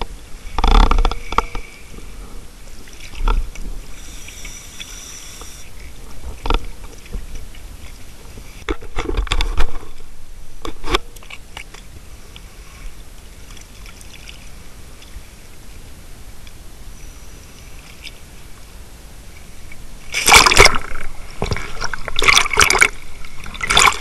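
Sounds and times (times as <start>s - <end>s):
wind and water hiss: 0.0s - 24.0s.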